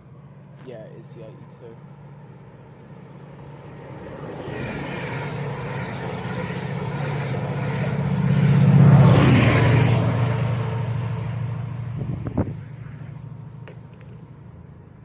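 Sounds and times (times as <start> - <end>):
diesel train hum: 0.0 - 15.0
wheel and rail noise: 1.8 - 15.0.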